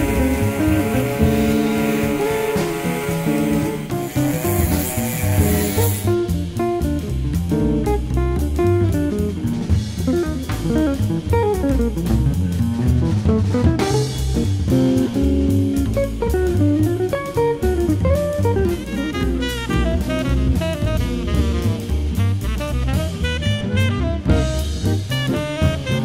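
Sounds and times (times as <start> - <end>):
drum kit beat: 0.0 - 26.0
guitar: 0.0 - 26.0.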